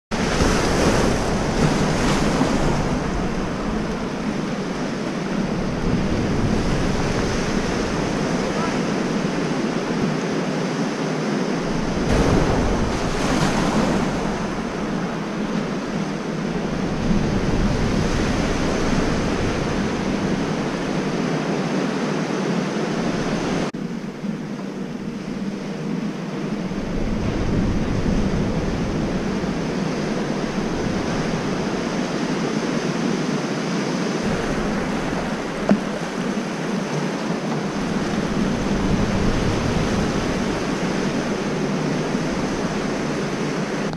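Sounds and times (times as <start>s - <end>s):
surf breaking in wave pool: 0.1s - 23.8s, 26.6s - 43.9s
wind rumbling on microphone: 0.1s - 43.9s.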